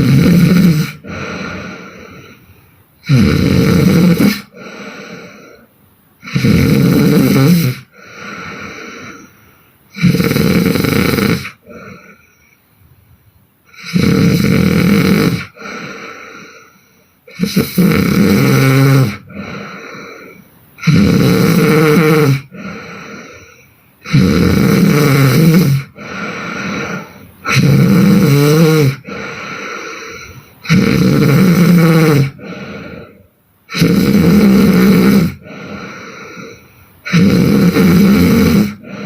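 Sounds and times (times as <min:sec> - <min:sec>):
woman snoring: 0:00.0 - 0:12.5, 0:13.7 - 0:39.0.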